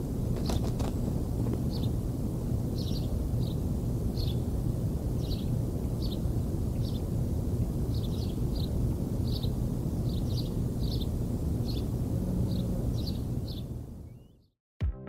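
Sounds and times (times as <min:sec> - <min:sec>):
wind rumble on microphone: 0:00.0 - 0:14.1
bird chirping: 0:00.4 - 0:02.0, 0:02.7 - 0:04.5, 0:05.2 - 0:07.1, 0:07.8 - 0:14.5.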